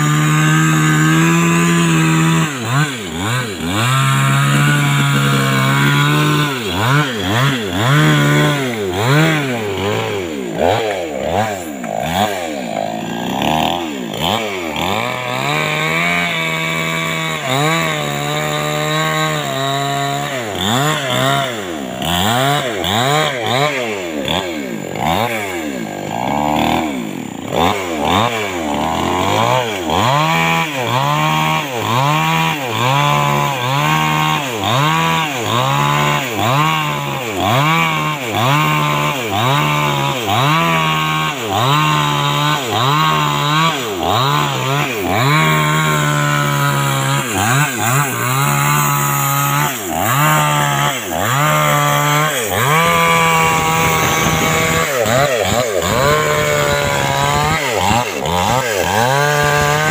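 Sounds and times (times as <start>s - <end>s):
chainsaw revving cutting wood: 0.0s - 59.9s.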